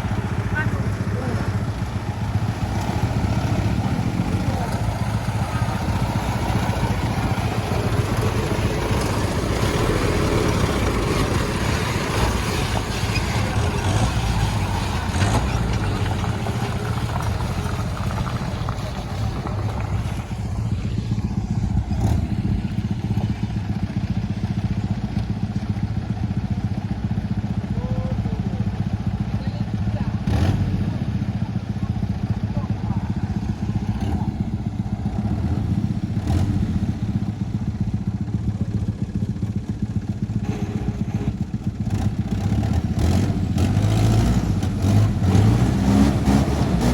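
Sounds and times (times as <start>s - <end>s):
old truck engine running: 0.0s - 46.9s.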